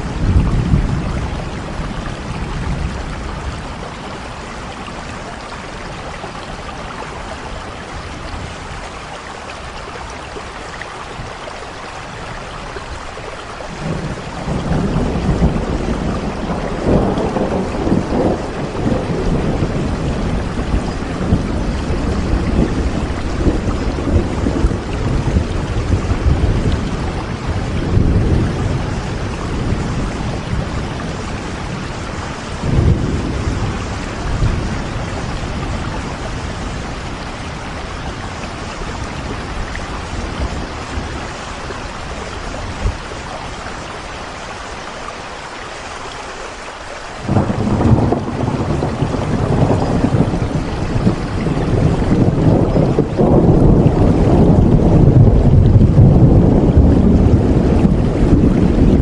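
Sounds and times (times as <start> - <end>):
thunder rumbling: 0.0 - 9.2, 13.1 - 43.8, 47.2 - 59.0
steady rain: 0.0 - 59.0.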